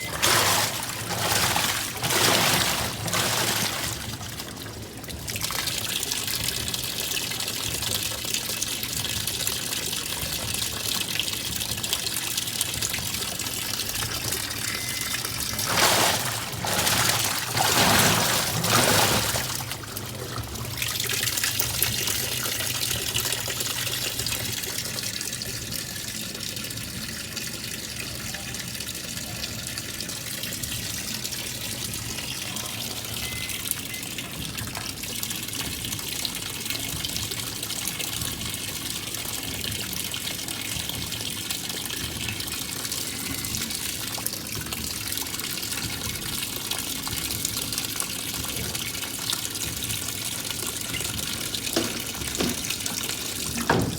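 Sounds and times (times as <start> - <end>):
water running into washing machine: 0.0 - 53.9.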